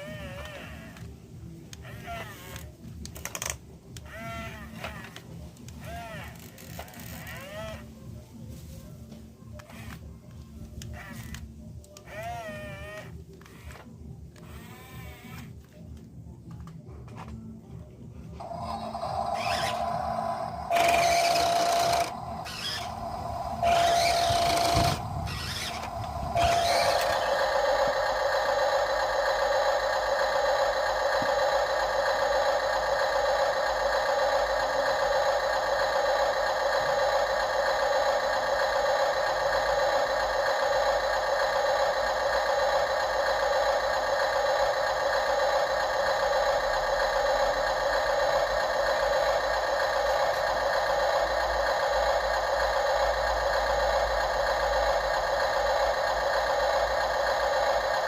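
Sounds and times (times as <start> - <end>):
electric motors and gears whining: 0.0 - 17.4, 18.3 - 58.0.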